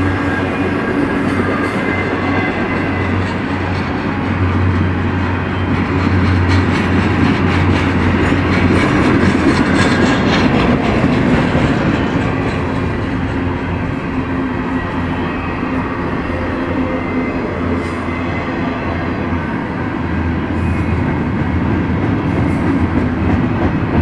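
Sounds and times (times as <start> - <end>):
freight train wheels rumbling on rails: 0.0 - 24.0.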